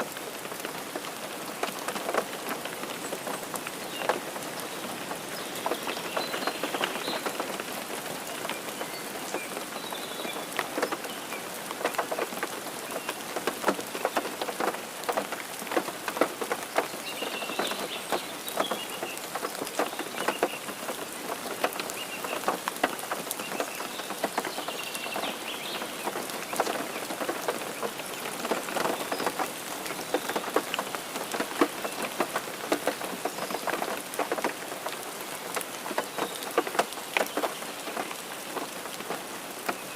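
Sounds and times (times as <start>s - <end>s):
raindrops hitting close by: 0.0s - 39.9s
steady rain hiss: 0.0s - 39.9s.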